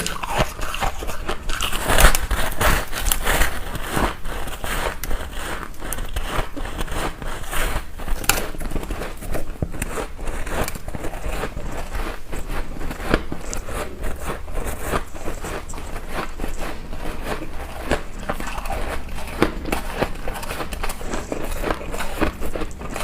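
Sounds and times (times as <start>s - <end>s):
ice crunched between teeth: 0.0s - 23.0s.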